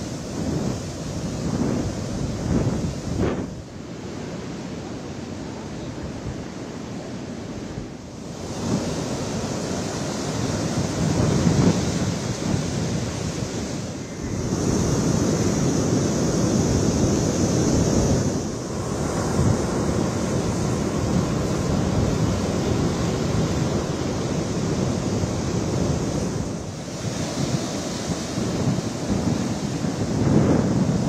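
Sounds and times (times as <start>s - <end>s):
wind buffeting microphone: 0.0s - 5.1s, 7.4s - 31.0s
heavy surf on rocky shore: 0.0s - 31.0s.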